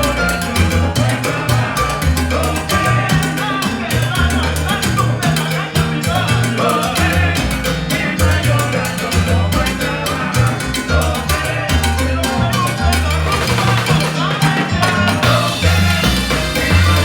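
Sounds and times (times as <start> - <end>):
bass line: 0.0 - 17.0
driving percussion: 0.0 - 17.0
salsa band playing live: 0.0 - 17.0.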